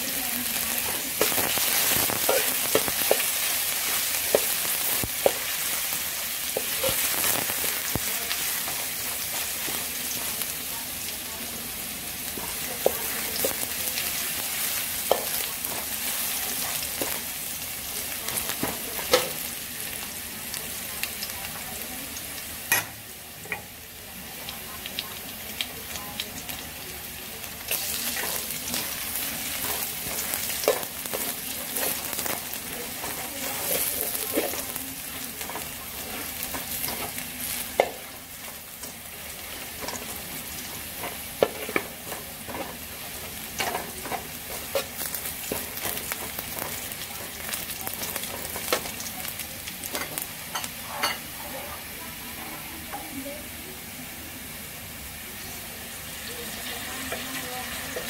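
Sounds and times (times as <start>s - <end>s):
oil sizzling in a wok: 0.0s - 58.0s.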